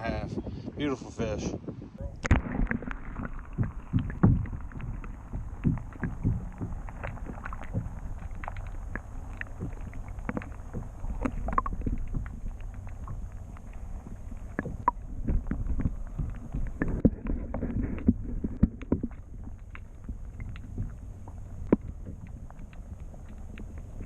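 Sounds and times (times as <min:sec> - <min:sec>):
wind rumbling on microphone: 0:00.0 - 0:24.0
water slapping against hull: 0:02.2 - 0:24.0.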